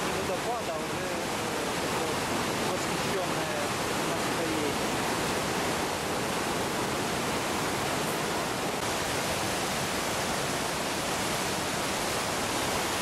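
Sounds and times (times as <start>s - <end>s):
rapids rushing water: 0.0s - 13.0s.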